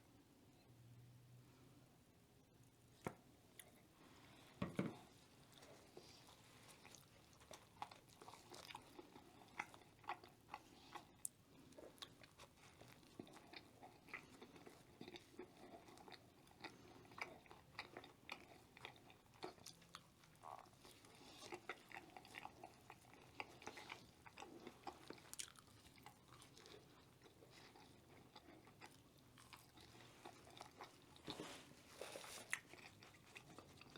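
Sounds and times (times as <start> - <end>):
chewing crispy food: 4.9 - 33.9.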